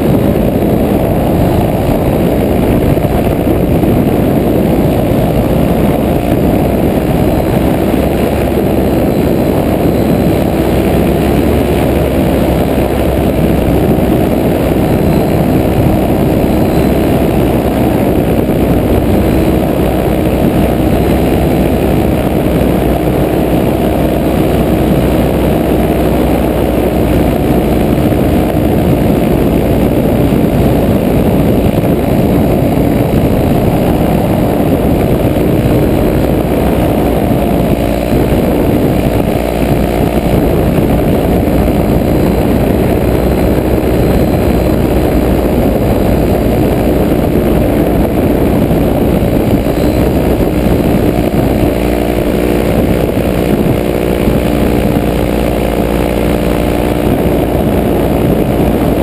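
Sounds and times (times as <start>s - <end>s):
paramotor engine droning: 0.0s - 59.0s.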